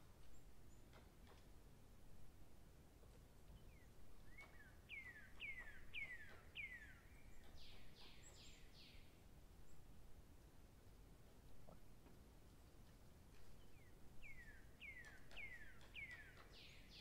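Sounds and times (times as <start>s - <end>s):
faint bird song: 0.0s - 17.0s.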